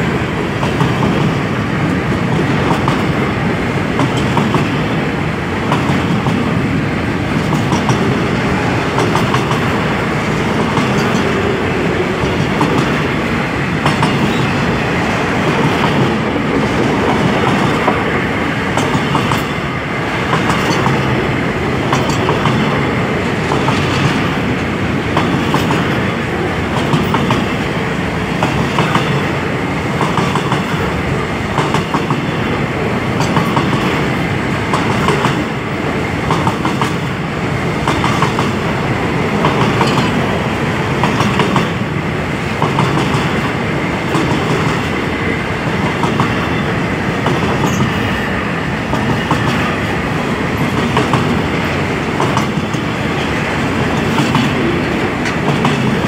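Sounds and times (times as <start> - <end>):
train wheels rumbling on rail: 0.0 - 56.0
wheels clickety-clack over rail joints: 0.0 - 56.0.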